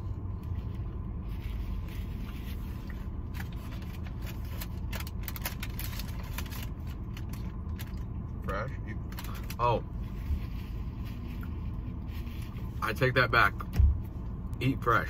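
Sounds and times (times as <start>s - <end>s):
low rumble inside a car: 0.0s - 15.0s.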